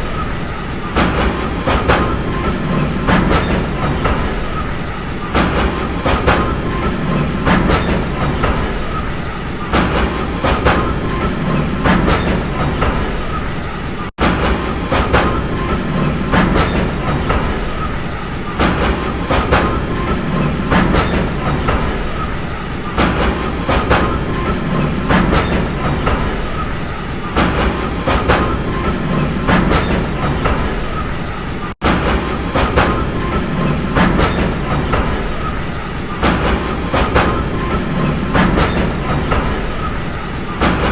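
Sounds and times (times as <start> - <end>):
train rumbling: 0.0 - 40.9
wheels clicking over rail joints: 0.0 - 40.9.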